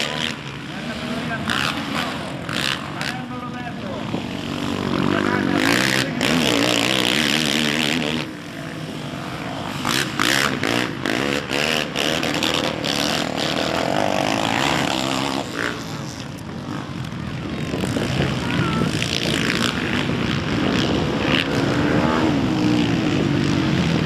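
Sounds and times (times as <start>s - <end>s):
quad engines revving: 0.0s - 24.0s.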